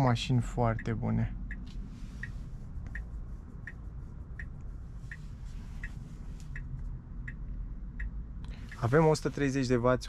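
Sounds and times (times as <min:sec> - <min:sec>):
cabin road noise: 0:00.0 - 0:10.0
turn signal ticking: 0:00.0 - 0:10.0.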